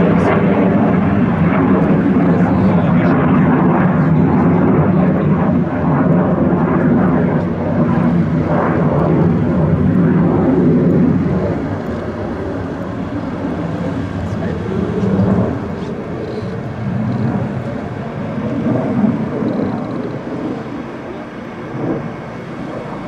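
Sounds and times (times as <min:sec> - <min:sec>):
jet engine in flight: 0:00.0 - 0:23.0.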